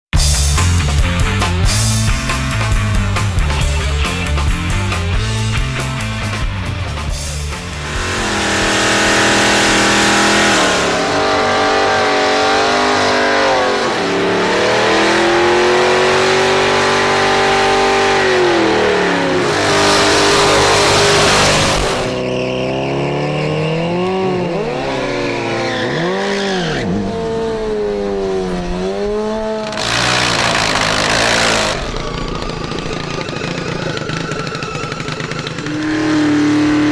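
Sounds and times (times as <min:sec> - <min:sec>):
race car engines revving: 0:00.5 - 0:36.9
tire screeching: 0:06.9 - 0:36.9.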